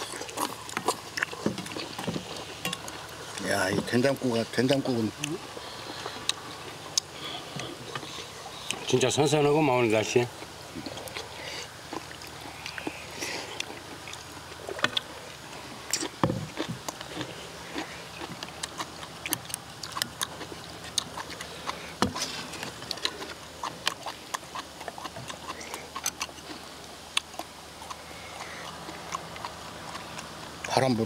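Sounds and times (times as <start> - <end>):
slurping and chewing: 0.0 - 31.0.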